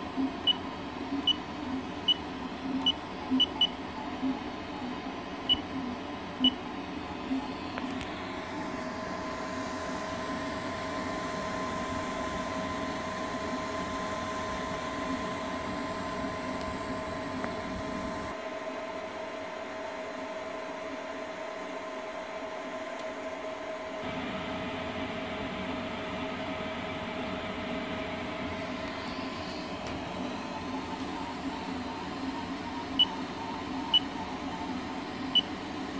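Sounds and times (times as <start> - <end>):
fan hum: 5.4 - 35.9.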